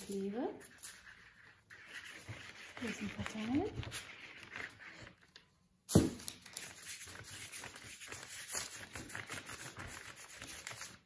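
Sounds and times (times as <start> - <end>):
palm rubbing glue on paper: 0.6 - 5.1, 6.6 - 11.0.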